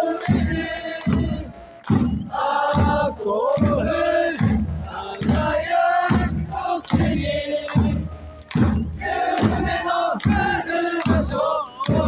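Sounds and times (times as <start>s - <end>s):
crowd chanting in unison: 0.0s - 12.0s
low thump keeping the beat: 0.1s - 12.0s.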